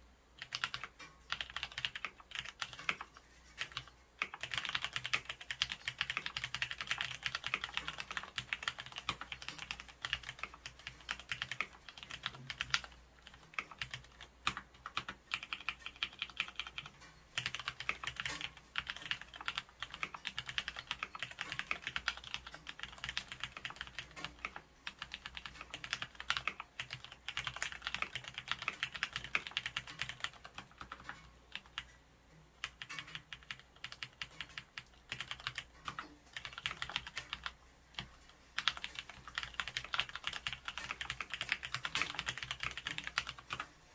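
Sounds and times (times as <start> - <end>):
mechanical keyboard typing: 0.4 - 32.0, 32.6 - 43.7.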